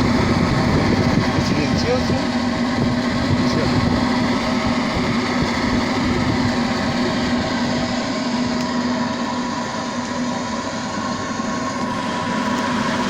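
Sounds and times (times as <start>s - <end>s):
blower motor hum: 0.0s - 13.0s.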